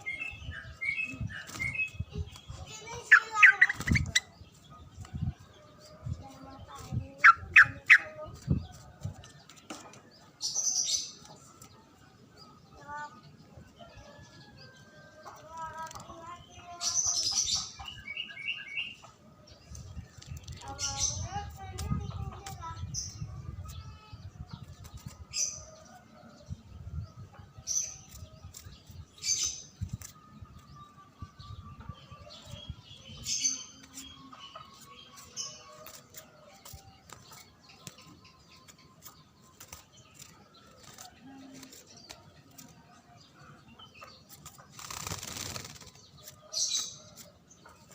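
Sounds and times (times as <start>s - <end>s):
songbird chirping: 0.0s - 47.9s.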